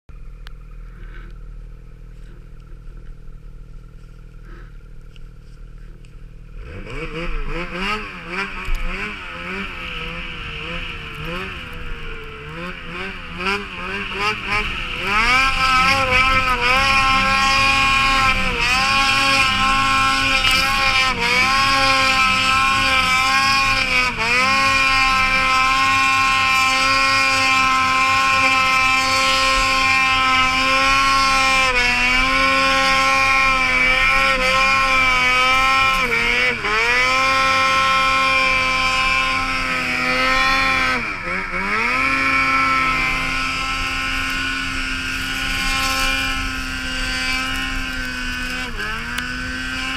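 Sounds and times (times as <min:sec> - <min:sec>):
snowmobile engine revving: 0:00.3 - 0:49.9.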